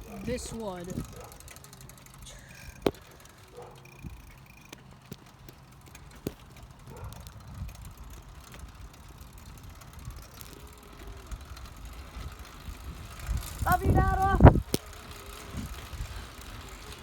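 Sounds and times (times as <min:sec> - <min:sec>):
bicycle tyres rumbling on road: 0:00.0 - 0:17.0.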